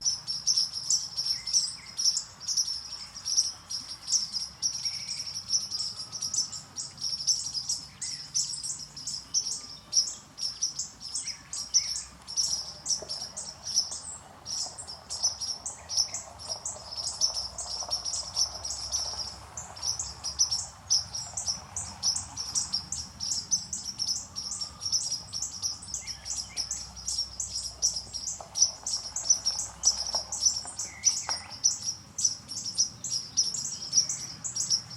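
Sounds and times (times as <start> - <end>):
flock of birds chirping: 0.0 - 34.9
lower bird calls: 0.0 - 34.9.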